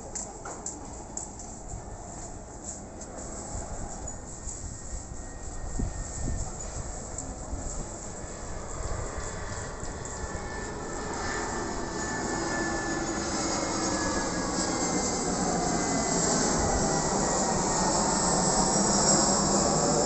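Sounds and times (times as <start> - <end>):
jet engines roaring: 3.2 - 20.0.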